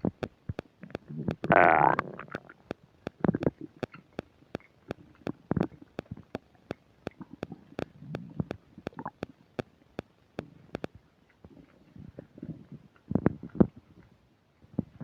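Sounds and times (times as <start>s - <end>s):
stomach growling: 0.0s - 9.4s, 10.7s - 14.1s
microphone static clicks: 0.0s - 13.8s
stomach gurgle: 0.0s - 15.0s.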